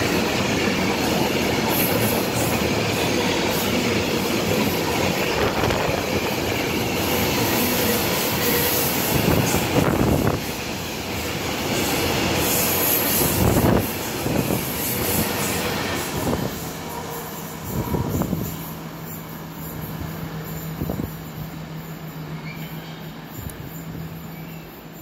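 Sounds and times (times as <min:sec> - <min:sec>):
freight train wheels clacking: 0:00.0 - 0:25.0.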